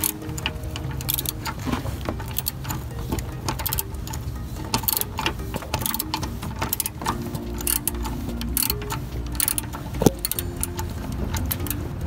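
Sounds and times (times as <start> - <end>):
hand ratchet clicking: 0.0 - 12.0.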